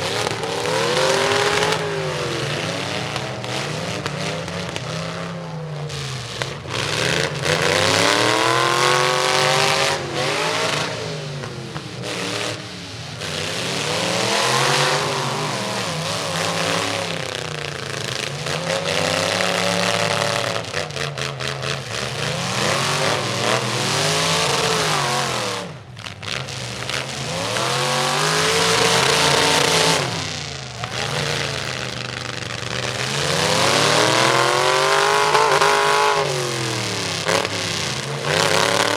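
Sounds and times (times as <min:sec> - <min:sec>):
truck engines revving hard: 0:00.0 - 0:38.9.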